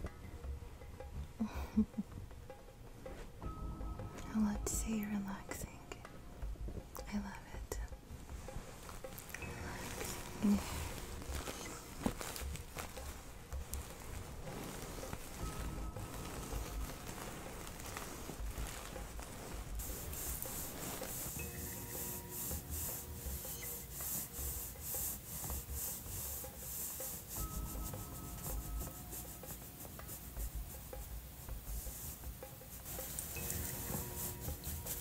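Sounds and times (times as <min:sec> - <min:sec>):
hands rubbing in massage strokes: 0:01.0 - 0:35.0.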